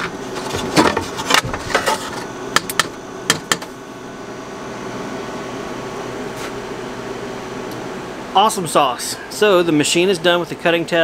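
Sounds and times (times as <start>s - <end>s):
steady fan hum: 0.0s - 11.0s.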